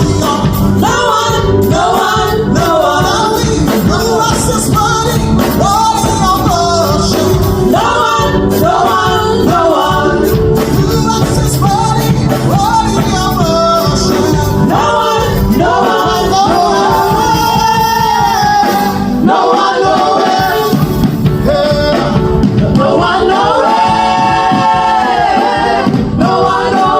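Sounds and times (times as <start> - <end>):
full band playing: 0.0 - 26.9
singers: 0.0 - 26.9.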